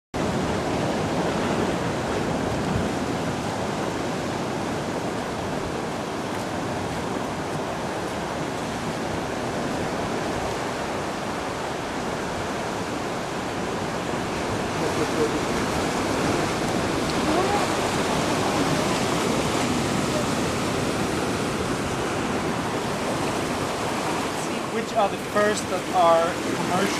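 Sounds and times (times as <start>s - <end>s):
ocean waves washing: 0.2s - 26.9s.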